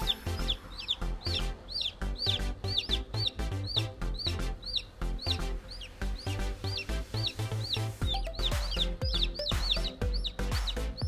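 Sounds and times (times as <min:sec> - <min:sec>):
chicks peeping: 0:00.0 - 0:01.0, 0:01.7 - 0:05.0, 0:05.6 - 0:10.8
background music: 0:00.0 - 0:11.0.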